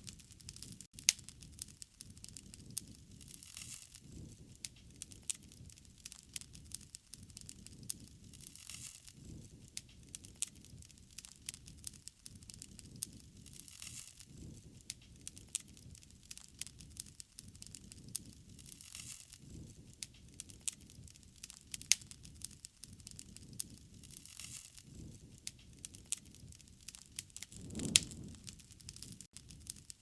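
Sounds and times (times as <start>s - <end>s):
low fire rumble: 0.0s - 30.0s
wood fire popping and crackling: 0.0s - 30.0s.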